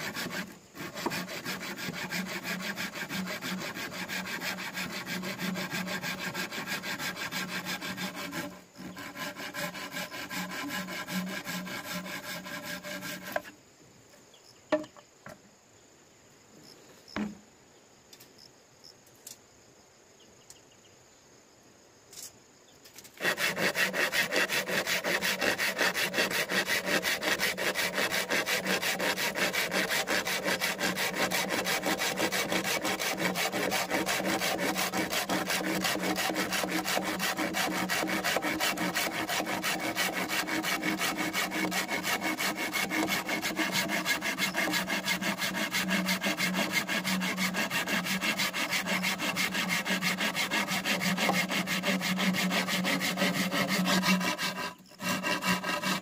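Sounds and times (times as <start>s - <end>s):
saw cutting through bamboo: 0.0s - 13.5s, 23.2s - 56.0s.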